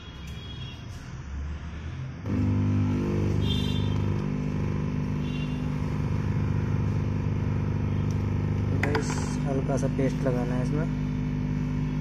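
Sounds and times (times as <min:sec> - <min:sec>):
machine droning hum: 0:00.0 - 0:12.0.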